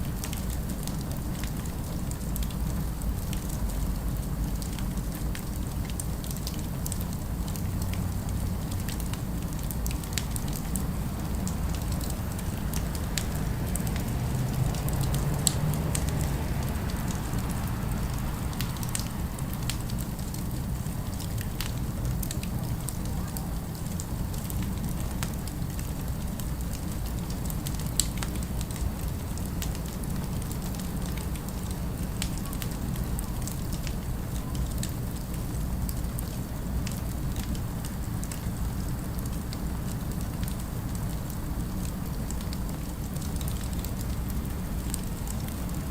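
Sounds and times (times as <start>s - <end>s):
low city rumble: 0.0s - 45.9s.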